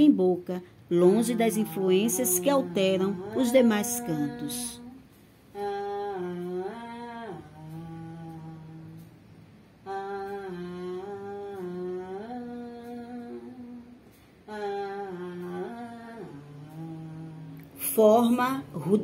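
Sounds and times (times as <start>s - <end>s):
woman humming a lullaby: 0.8s - 19.0s.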